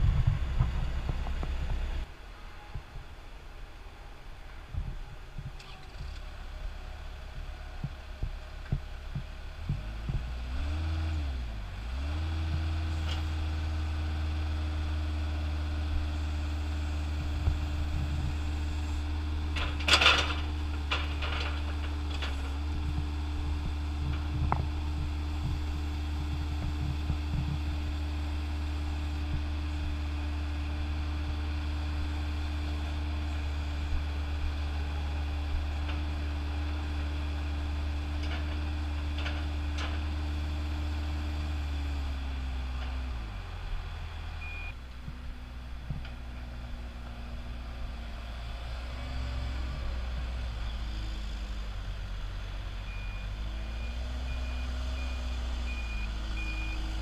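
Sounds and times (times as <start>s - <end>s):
diesel engine revving: 6.0s - 57.0s.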